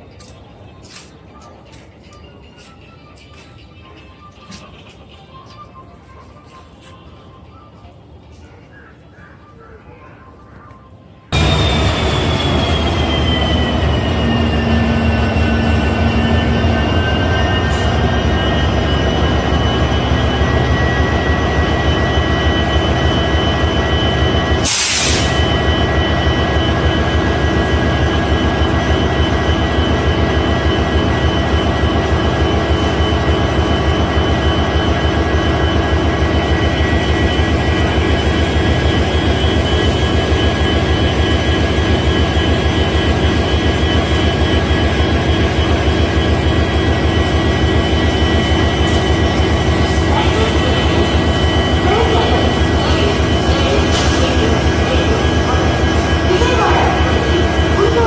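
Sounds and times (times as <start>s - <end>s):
locomotive diesel engine running: 11.3s - 58.0s.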